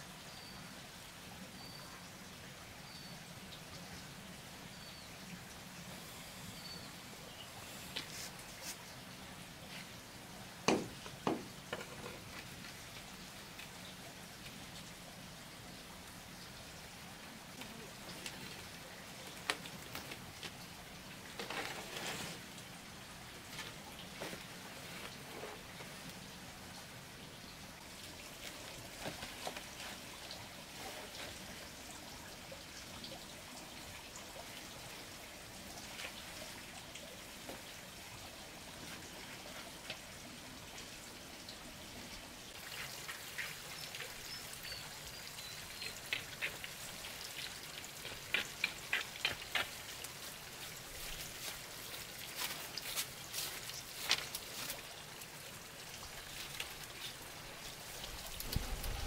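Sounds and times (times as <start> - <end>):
water dripping and trickling: 0.0 - 59.0.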